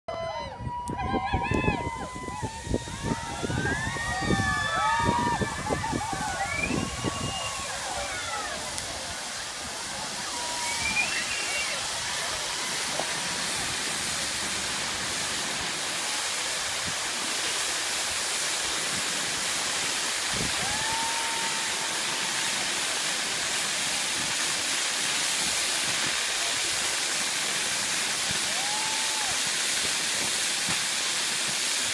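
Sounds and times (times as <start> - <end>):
fountain fireworks hissing: 0.2 - 31.9.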